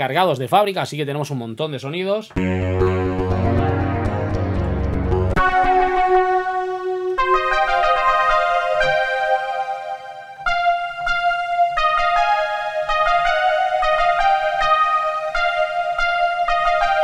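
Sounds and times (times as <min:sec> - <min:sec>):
synthesizer chords and notes: 0:02.3 - 0:17.0.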